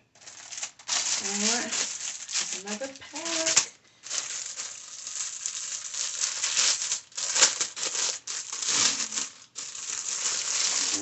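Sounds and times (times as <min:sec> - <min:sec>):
plastic packaging crinkling: 0:00.2 - 0:11.0.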